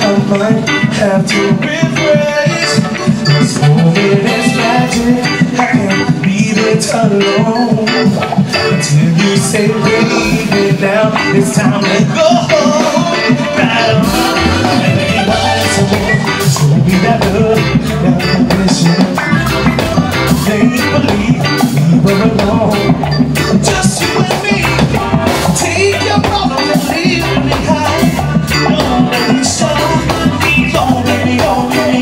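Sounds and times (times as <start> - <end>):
live reggae band playing: 0.0 - 32.0.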